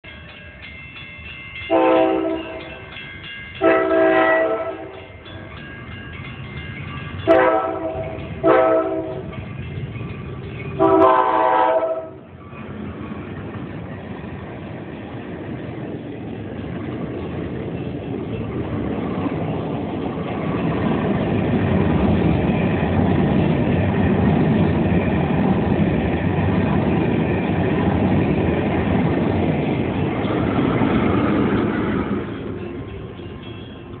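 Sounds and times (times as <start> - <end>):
train wheels rumbling on rails: 0.0 - 34.0
locomotive engine: 6.3 - 34.0.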